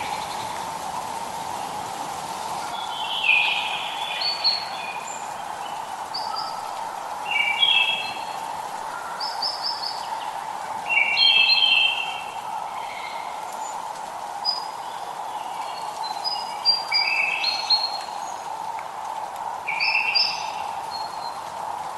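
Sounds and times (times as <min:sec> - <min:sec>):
light rain hiss: 0:00.0 - 0:21.9
songbirds chirping: 0:00.0 - 0:21.9.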